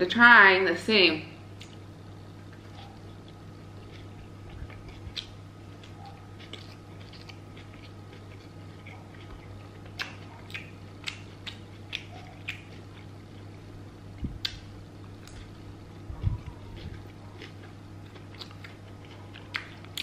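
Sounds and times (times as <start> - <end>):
steady low hum: 0.0 - 20.0
person chewing pizza: 1.6 - 20.0.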